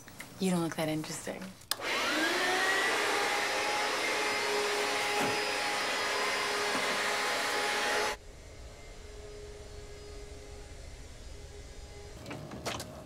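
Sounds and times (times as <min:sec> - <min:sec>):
vacuum cleaner running: 0:01.7 - 0:13.0.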